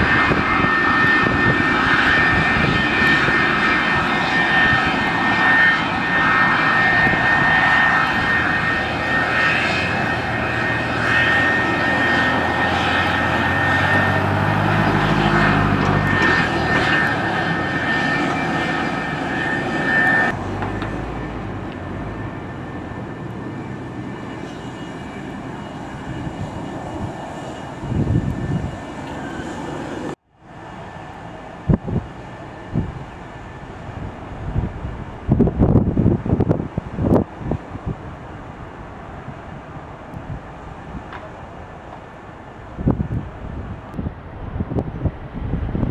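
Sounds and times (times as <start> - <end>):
airliner engines running: 0.0 - 45.9.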